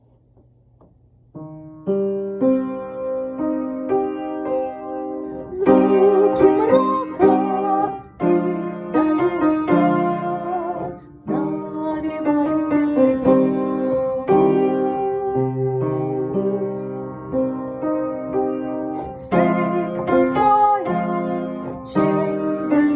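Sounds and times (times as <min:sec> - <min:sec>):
electric piano chords: 0:01.3 - 0:22.9.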